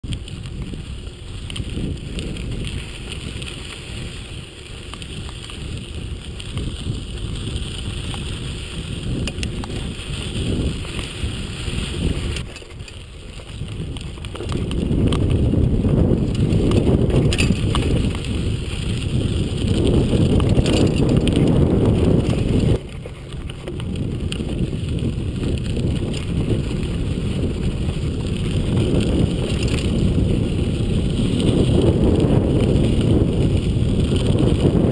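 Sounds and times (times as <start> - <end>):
bike rattling: 0.0 - 34.9
tyres rumbling on dirt: 0.0 - 34.9
wind buffeting microphone: 0.0 - 34.9.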